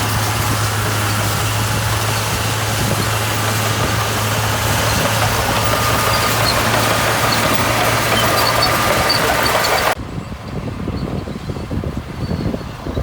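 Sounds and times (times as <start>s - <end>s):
diesel engine running: 0.0s - 11.8s.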